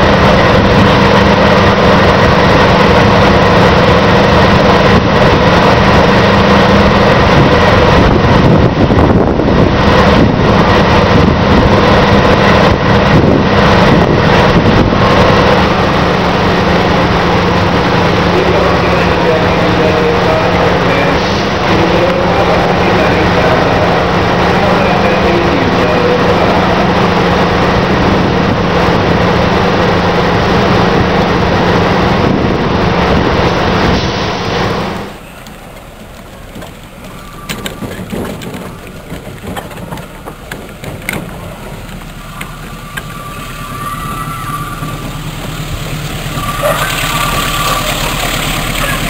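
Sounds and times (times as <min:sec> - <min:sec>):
locomotive idling hum: 0:00.0 - 0:49.0
train diesel engine approaching: 0:00.0 - 0:49.0.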